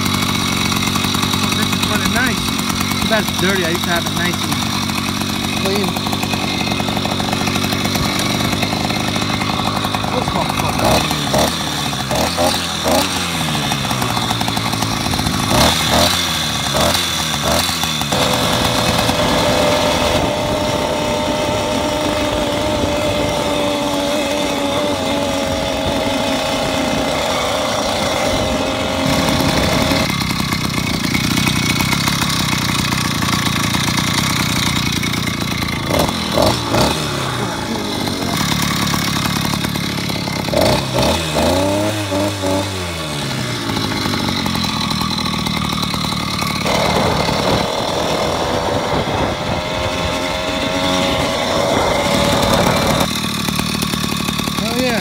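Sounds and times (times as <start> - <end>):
two-stroke bicycle engine running: 0.0 - 55.0.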